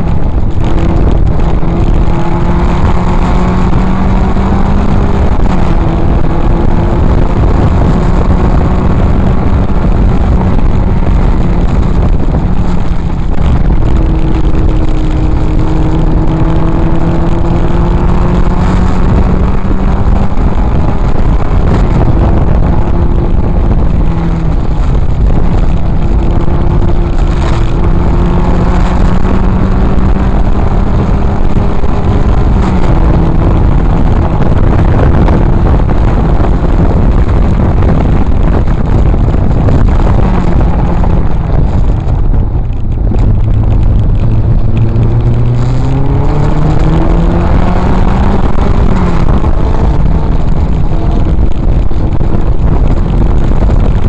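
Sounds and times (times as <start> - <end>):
car engine running hard: 0.0 - 54.0
wind and road noise: 0.0 - 54.0.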